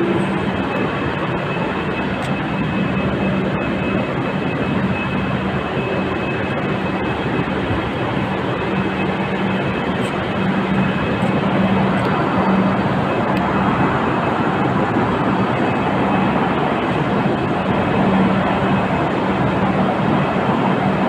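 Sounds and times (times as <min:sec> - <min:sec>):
high whine: 0:00.0 - 0:21.0
low hum: 0:00.0 - 0:21.0
trains roaring at platform: 0:00.0 - 0:21.0.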